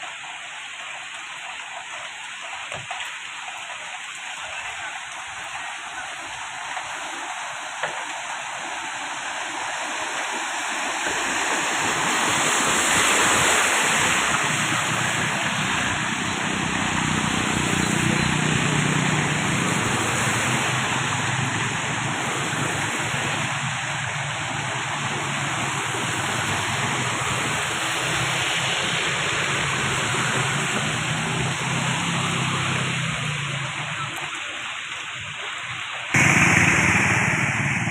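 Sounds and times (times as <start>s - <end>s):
rain and running water: 0.0s - 37.9s.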